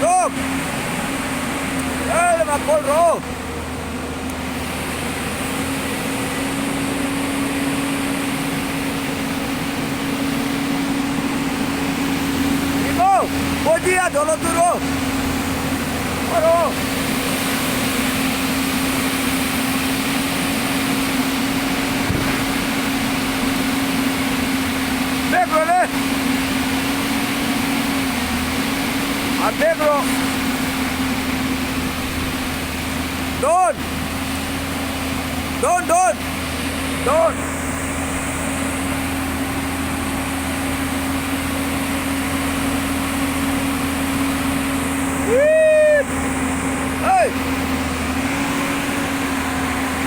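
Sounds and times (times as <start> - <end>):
diesel engine humming: 0.0 - 50.0.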